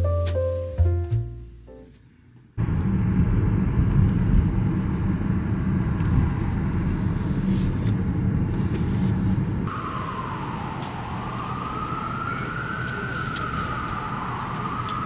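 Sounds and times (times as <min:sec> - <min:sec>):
city street traffic rumble: 0:02.0 - 0:15.0.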